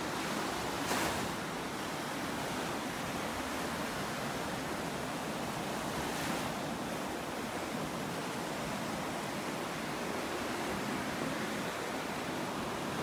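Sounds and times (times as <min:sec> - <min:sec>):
waves washing up sandy shore: 0:00.0 - 0:13.0.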